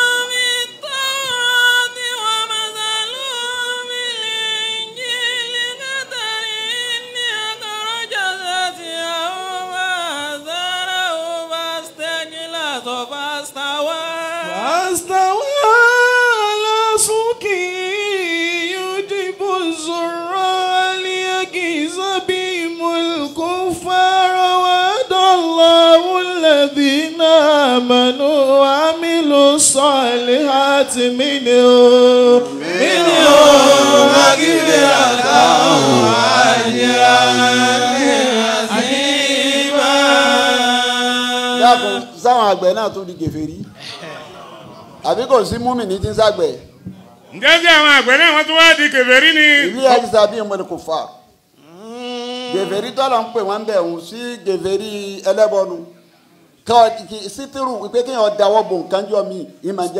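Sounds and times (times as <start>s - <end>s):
men chanting a recitation: 5.1s - 43.2s, 43.8s - 46.4s, 47.1s - 50.9s, 51.6s - 55.6s.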